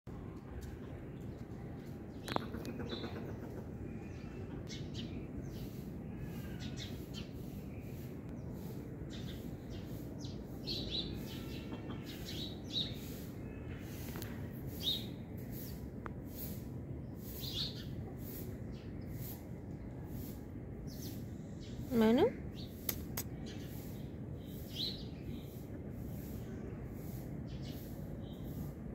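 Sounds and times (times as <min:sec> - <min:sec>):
steady low background noise: 0:00.1 - 0:28.9
small birds chirping: 0:01.1 - 0:28.9.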